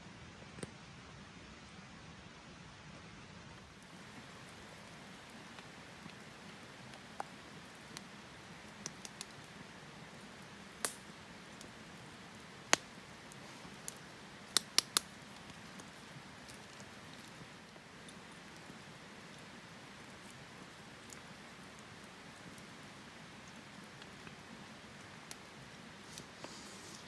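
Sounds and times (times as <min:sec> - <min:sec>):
faint steady hiss: 0:00.0 - 0:27.0
campfire crackling and popping: 0:00.4 - 0:00.8, 0:02.8 - 0:27.0.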